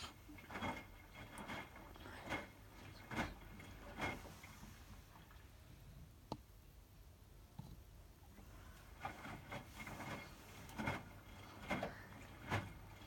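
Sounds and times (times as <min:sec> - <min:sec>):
washing machine running: 0:00.0 - 0:06.2, 0:08.0 - 0:13.0.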